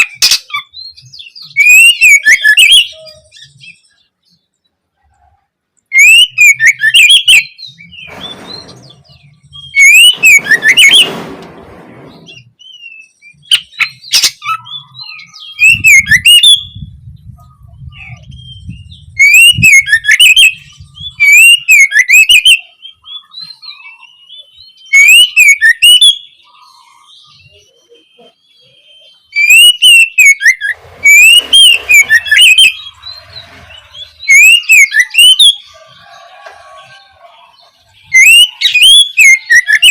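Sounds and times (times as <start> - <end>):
bird singing chirps and whistles: 0.0 - 4.4, 5.9 - 11.1, 12.1 - 36.2, 36.8 - 39.9.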